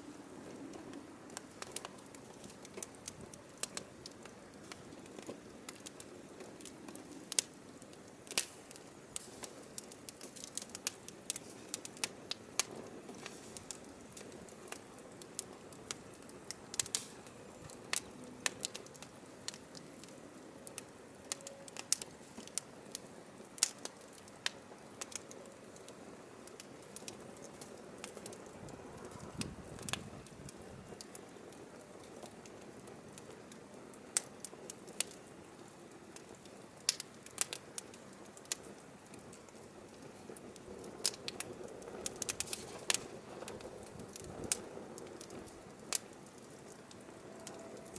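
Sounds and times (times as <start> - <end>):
faint steady hiss: 0.0 - 47.9
fire crackling and popping: 0.0 - 47.9.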